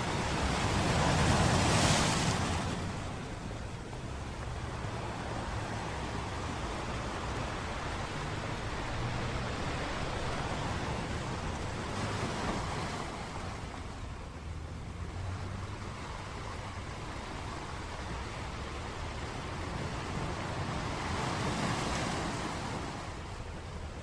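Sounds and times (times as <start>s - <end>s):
sea waves washing onto beach: 0.0s - 24.0s
wind rumbling on microphone: 0.0s - 24.0s.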